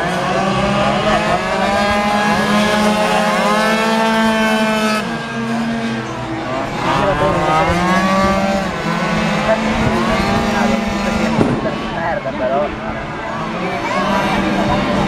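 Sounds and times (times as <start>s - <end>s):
two-stroke scooter engines racing: 0.0s - 15.0s.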